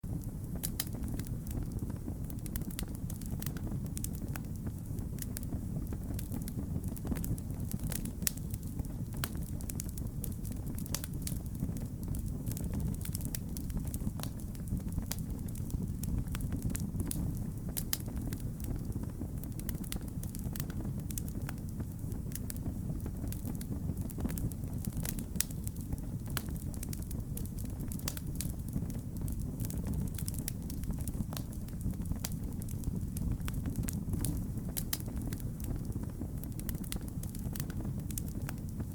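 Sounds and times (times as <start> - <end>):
fire popping and snapping: 0.0 - 38.9
low rumble of flames: 0.0 - 38.9
wood fire crackling: 0.0 - 38.9.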